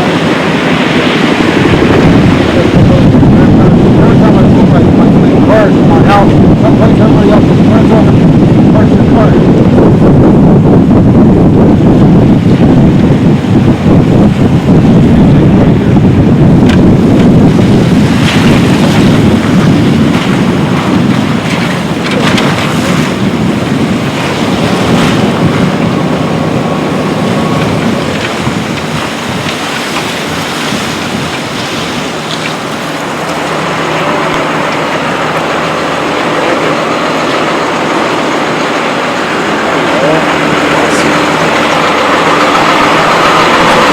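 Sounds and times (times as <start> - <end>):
helicopter rotor noise: 0.0 - 43.9
wind rumble on microphone: 0.0 - 43.9.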